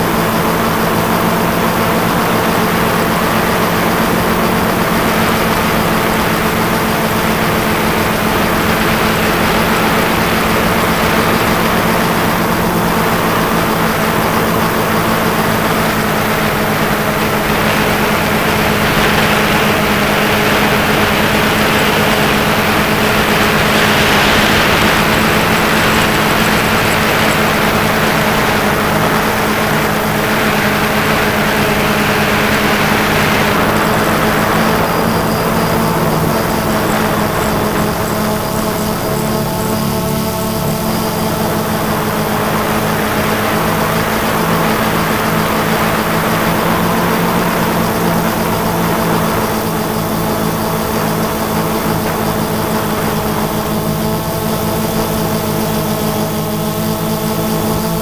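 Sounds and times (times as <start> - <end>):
drone motors humming: 0.0 - 58.0
rushing wind noise: 0.0 - 58.0.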